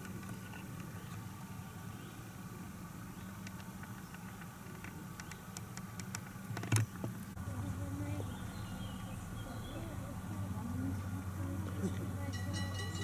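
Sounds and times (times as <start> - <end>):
low outdoor hum: 0.0 - 13.0.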